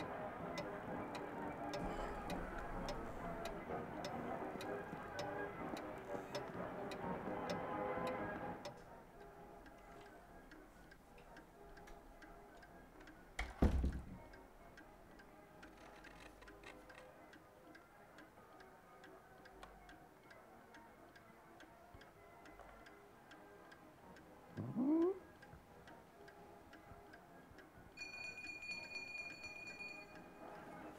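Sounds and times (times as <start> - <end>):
clock ticking: 0.0 - 30.9.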